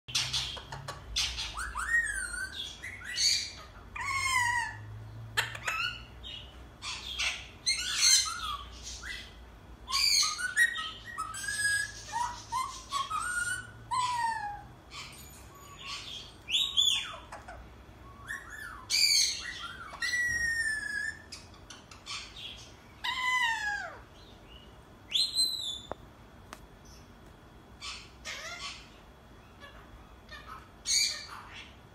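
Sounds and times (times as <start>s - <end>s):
parakeet whistles and squawks: 0.1s - 26.0s, 27.8s - 31.9s.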